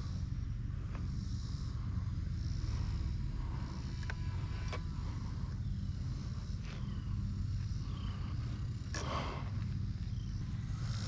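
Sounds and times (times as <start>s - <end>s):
distant model plane motor whine: 0.0s - 11.0s.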